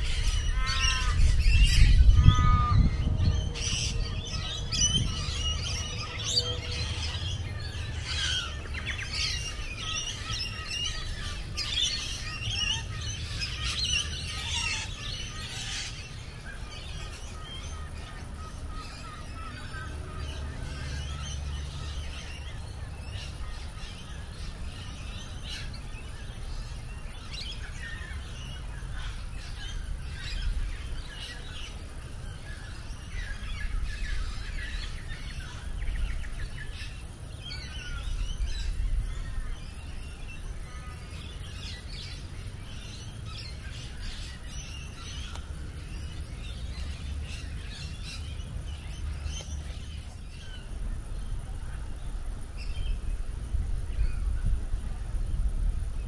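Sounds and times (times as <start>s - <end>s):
birds chirping and calling: 0.0s - 56.0s
wind rumble on microphone: 0.0s - 56.0s.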